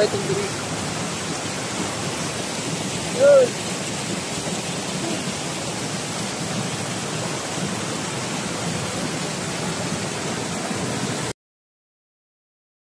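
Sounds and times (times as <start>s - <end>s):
stream rushing over rocks: 0.0s - 11.4s.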